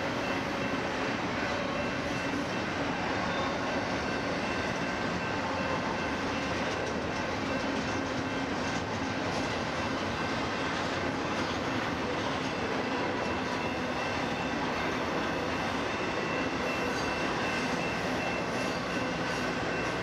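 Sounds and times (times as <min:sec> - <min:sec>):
train wheels rumbling on rail: 0:00.0 - 0:20.0
high wheel squeal: 0:00.2 - 0:20.0.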